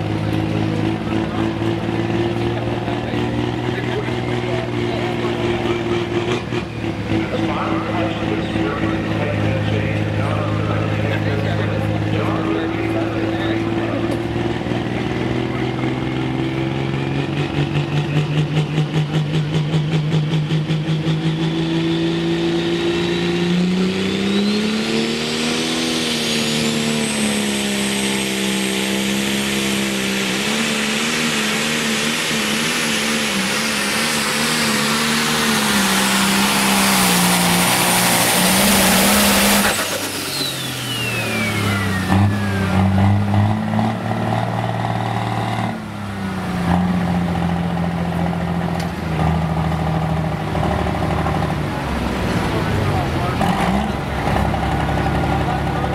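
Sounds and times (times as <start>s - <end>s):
diesel tractor engine under load: 0.0s - 55.9s.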